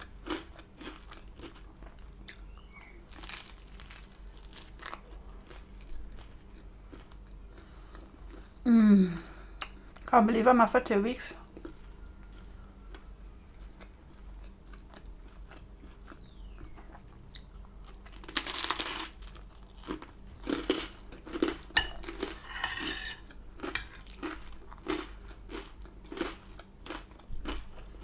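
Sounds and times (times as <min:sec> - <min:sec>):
chewing crisp bread: 0:00.0 - 0:08.6, 0:09.2 - 0:10.1, 0:11.4 - 0:28.0.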